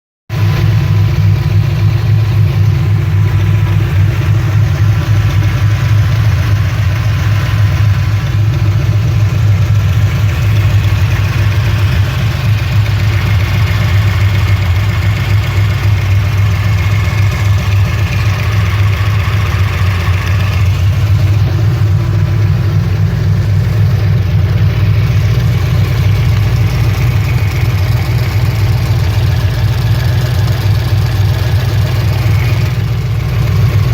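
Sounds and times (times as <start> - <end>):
car engine idling: 0.3 - 33.9
engine valvetrain ticking: 0.3 - 33.9.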